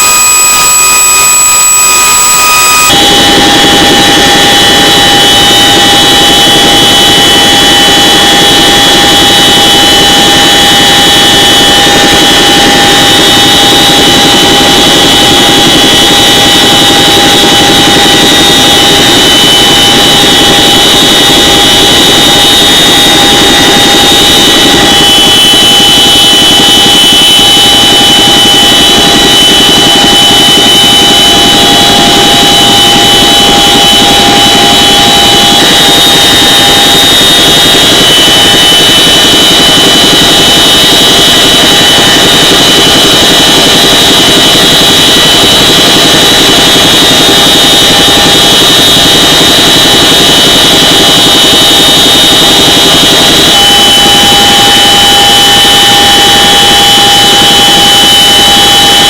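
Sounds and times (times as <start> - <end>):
helicopter rotor noise: 0.0 - 59.0.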